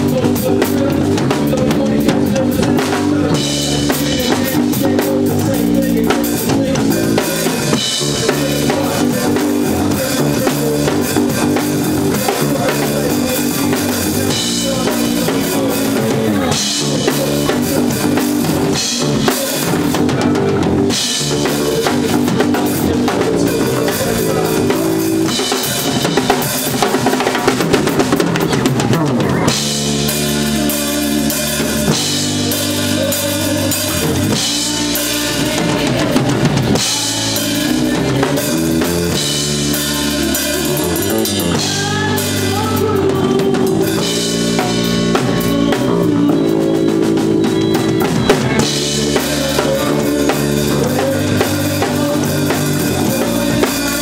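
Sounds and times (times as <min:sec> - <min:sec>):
drum kit: 0:00.0 - 0:54.0
live band playing: 0:00.0 - 0:54.0.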